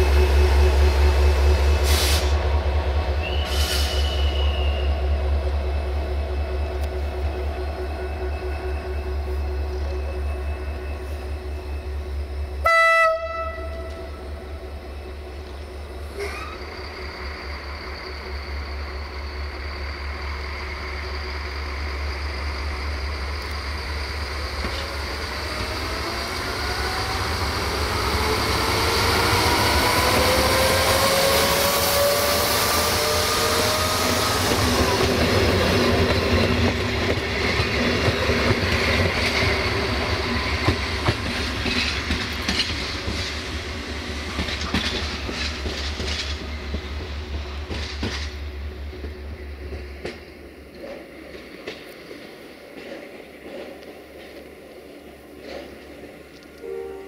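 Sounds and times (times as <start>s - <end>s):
diesel railcar engine passing: 0.0s - 57.0s.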